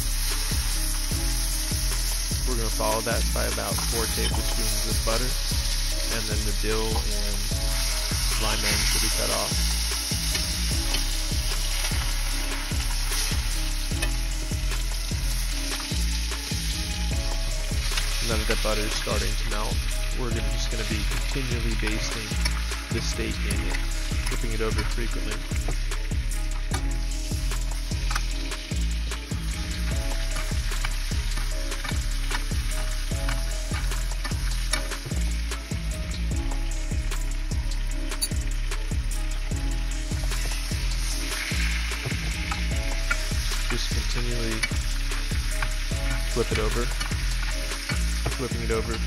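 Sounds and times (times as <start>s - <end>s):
steak sizzling in a pan: 0.0s - 49.0s.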